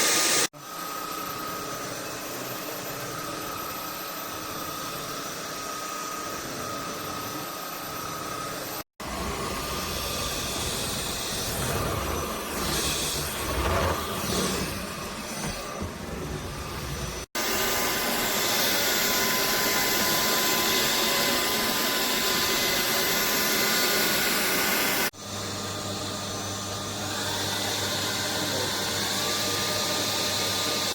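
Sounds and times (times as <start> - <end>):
stick vacuum running: 0.0 - 30.9.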